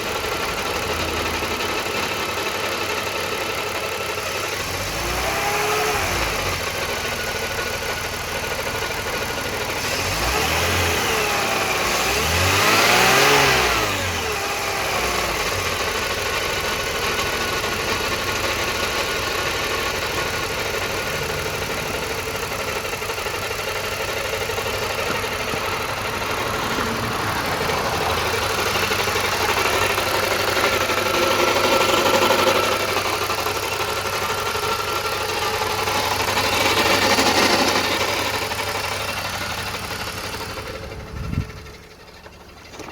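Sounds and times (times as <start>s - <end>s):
car engine revving: 0.0s - 3.0s, 4.2s - 6.9s, 9.6s - 17.2s, 17.8s - 23.8s, 24.5s - 42.9s
car engine running with rattle: 0.0s - 42.9s.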